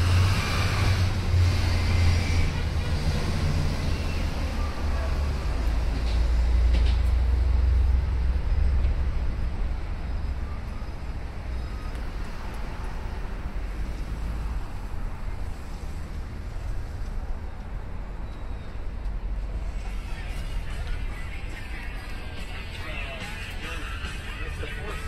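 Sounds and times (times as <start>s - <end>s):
passing vehicle engines rumbling: 0.0s - 25.0s.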